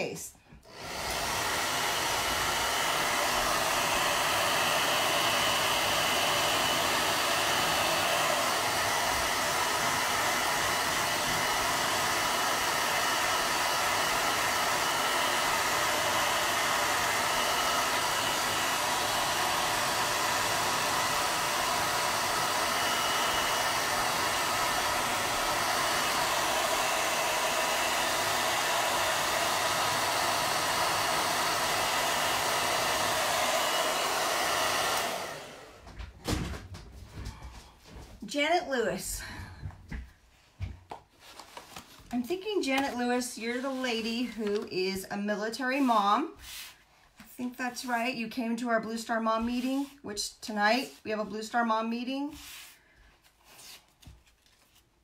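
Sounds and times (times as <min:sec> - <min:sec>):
hair dryer running: 0:00.0 - 0:46.7, 0:47.4 - 0:52.8.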